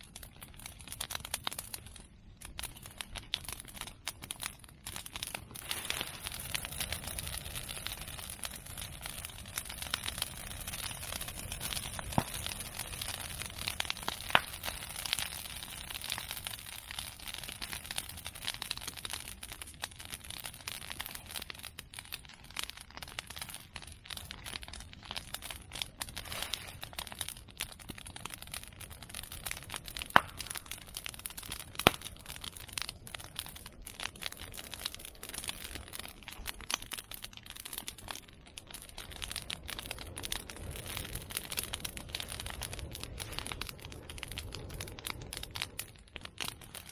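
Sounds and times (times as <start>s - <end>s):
bonfire crackling: 0.0s - 46.9s.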